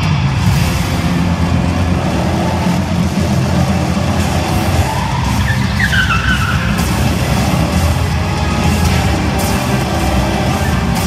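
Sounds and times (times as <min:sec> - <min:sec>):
loud arena show music: 0:00.0 - 0:11.0
motorcycle engines revving: 0:00.0 - 0:11.0
wavering falling whine: 0:00.0 - 0:11.0.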